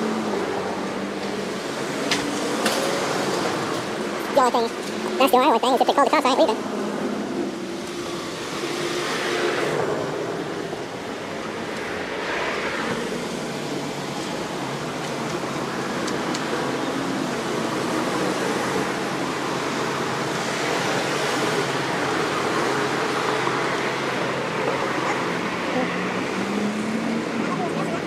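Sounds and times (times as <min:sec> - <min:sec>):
traffic passing: 0:00.0 - 0:28.0.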